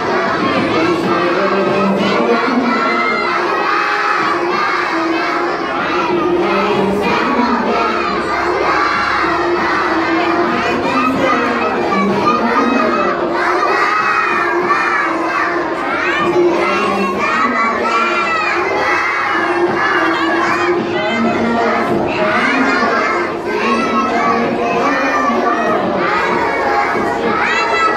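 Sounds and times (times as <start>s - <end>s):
young children singing together: 0.0s - 27.9s.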